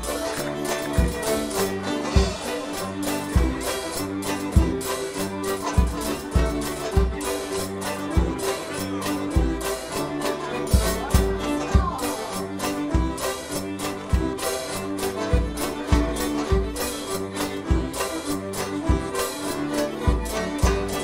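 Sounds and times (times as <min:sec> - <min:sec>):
dance band playing: 0:00.0 - 0:21.0
fiddle: 0:00.0 - 0:21.0
steady bass drum beat: 0:00.0 - 0:21.0.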